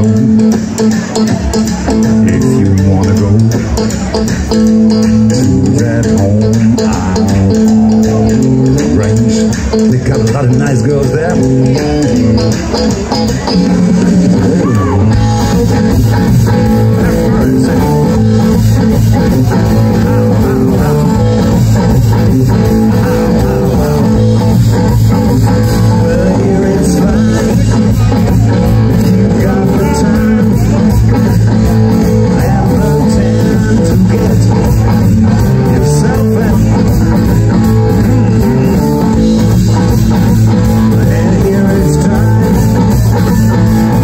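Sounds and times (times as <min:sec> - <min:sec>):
bass guitar: 0:00.0 - 0:44.0
drums beating: 0:00.0 - 0:44.0
electric guitars: 0:00.0 - 0:44.0
person singing: 0:00.0 - 0:44.0.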